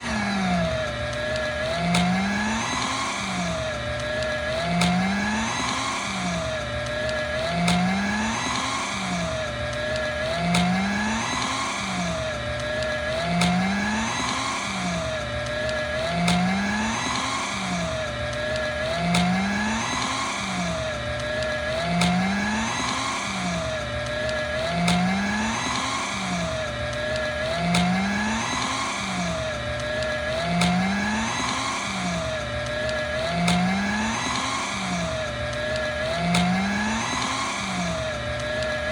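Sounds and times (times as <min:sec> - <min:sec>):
paper shredder grinding: 0:00.0 - 0:38.9.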